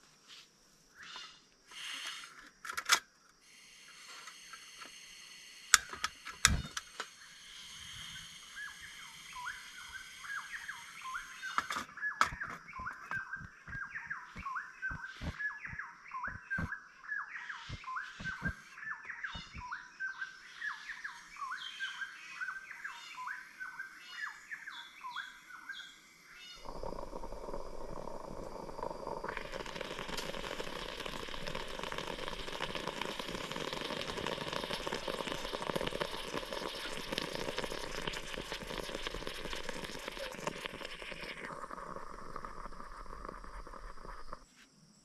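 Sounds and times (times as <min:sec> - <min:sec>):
bird chirps: 0:08.0 - 0:44.4.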